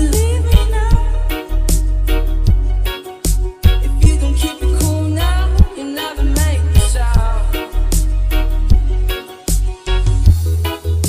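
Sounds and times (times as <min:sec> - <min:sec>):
reggae music with heavy bass: 0:00.0 - 0:11.0.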